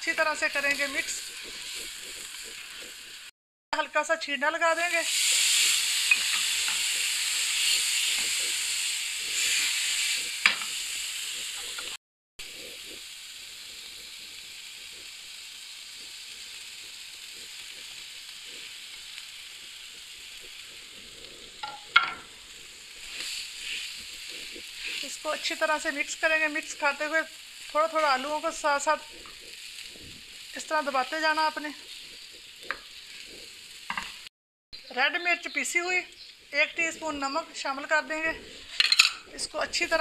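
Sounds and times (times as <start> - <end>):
spatula stirring in pan: 0.0 - 3.3, 4.7 - 34.3, 35.6 - 40.0
food sizzling in hot oil: 0.0 - 40.0.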